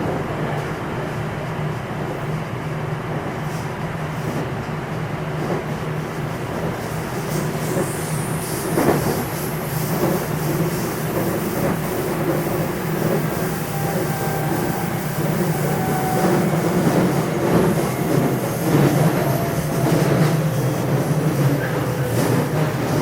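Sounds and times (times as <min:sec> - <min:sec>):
wheel and rail rumble: 0:00.0 - 0:23.0
rail joint clicks: 0:03.2 - 0:23.0.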